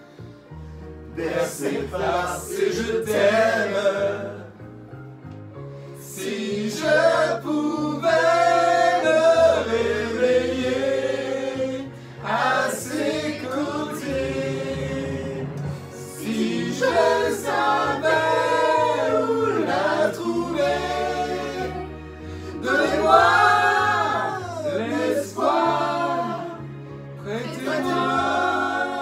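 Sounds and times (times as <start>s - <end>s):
group of people singing: 1.1s - 4.6s, 6.0s - 29.0s.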